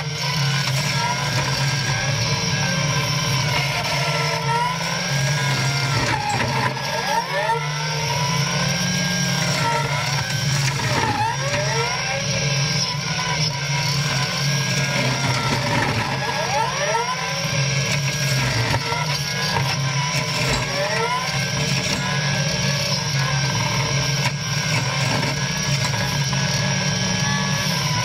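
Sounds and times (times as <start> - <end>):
brush cutter cutting bushes: 0.0 - 28.0
diesel engine under load: 0.0 - 28.0.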